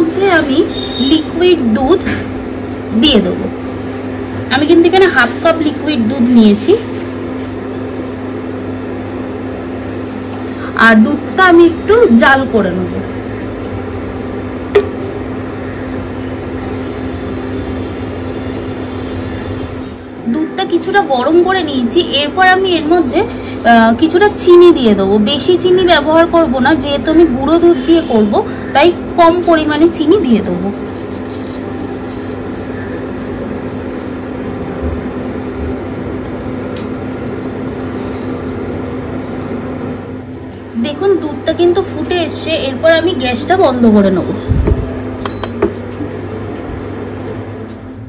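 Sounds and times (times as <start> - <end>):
droning hum: 0.0 - 48.0.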